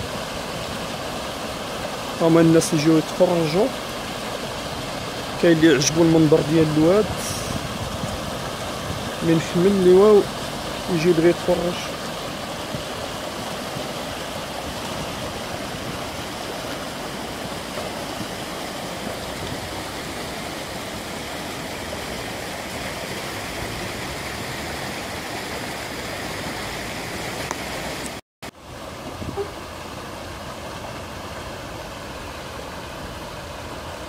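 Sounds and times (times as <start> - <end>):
floodwater rushing over stones: 0.0 - 34.0.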